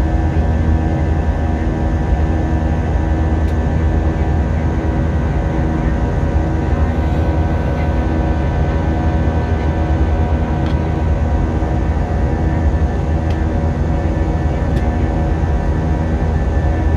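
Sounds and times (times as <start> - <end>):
jet engine drone in cabin: 0.0 - 16.9.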